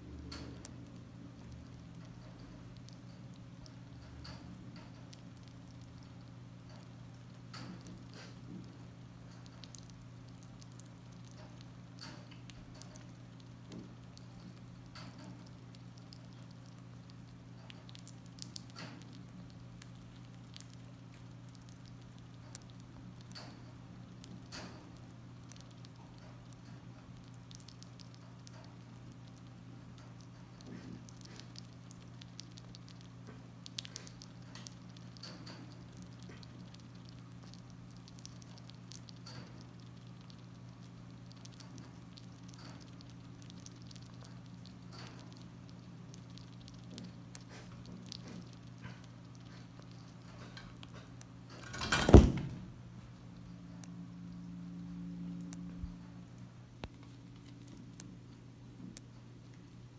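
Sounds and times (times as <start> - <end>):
squirrel chewing: 0.0 - 59.9.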